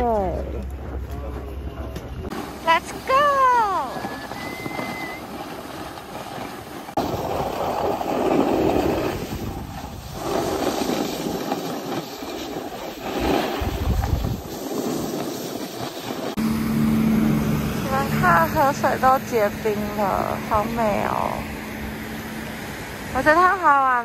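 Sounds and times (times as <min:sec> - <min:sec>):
wind on microphone: 0:00.0 - 0:19.6
skis scraping over snow: 0:00.2 - 0:16.4, 0:17.8 - 0:21.4.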